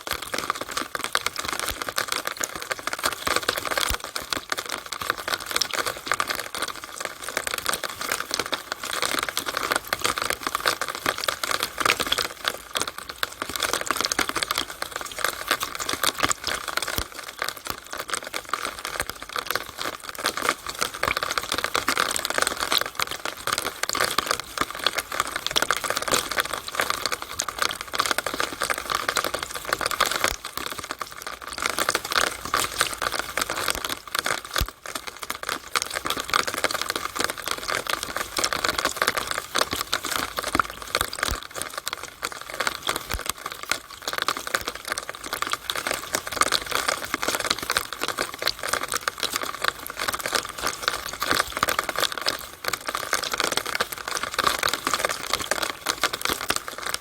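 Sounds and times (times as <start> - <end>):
water running through downspout: 0.0 - 57.0.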